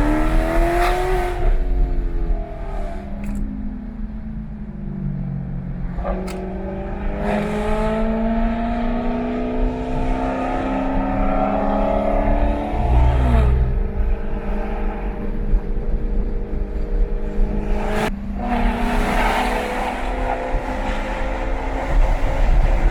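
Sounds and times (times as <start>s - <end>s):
sports car engine accelerating: 0.0s - 22.9s.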